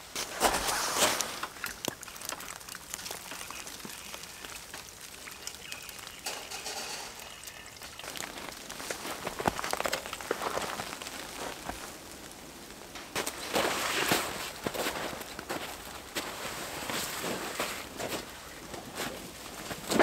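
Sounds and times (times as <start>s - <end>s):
meltwater dripping from trees: 0.2s - 20.0s.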